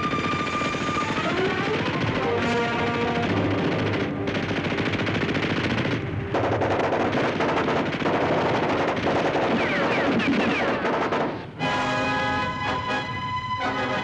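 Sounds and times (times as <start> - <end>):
machine-gun fire: 0.0 - 11.4.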